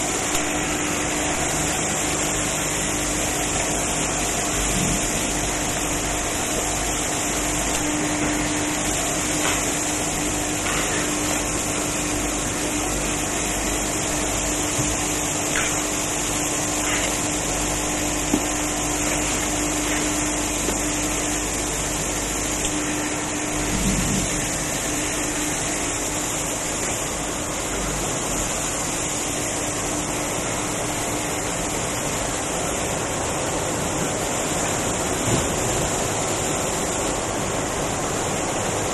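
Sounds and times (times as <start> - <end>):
machinery hum: 0.0 - 38.9.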